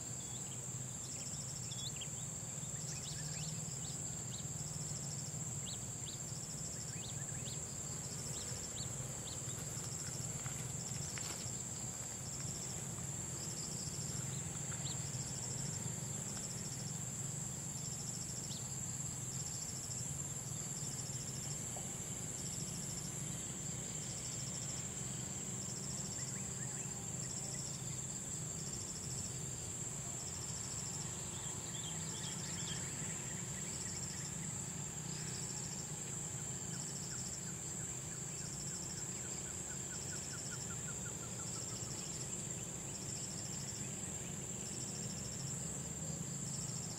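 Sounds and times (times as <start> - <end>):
insect chirping in pulses: 0.0 - 46.9
insect high-pitched drone: 0.0 - 46.9.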